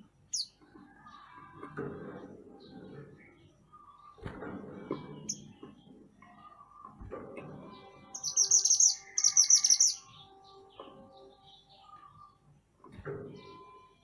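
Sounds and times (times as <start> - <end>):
songbird high-pitched chirping: 0.0 - 1.6, 2.5 - 4.2, 4.8 - 14.0
faint background bird calls: 0.0 - 14.0.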